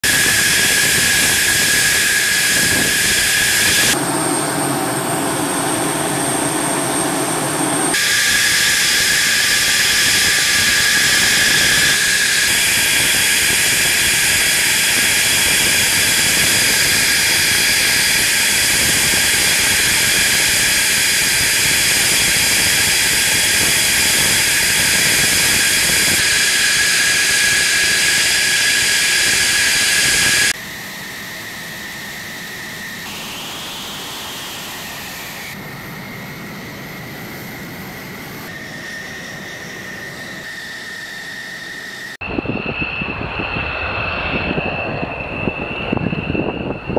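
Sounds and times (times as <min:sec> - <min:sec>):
jet engine hiss with high whine: 0:00.0 - 0:46.9.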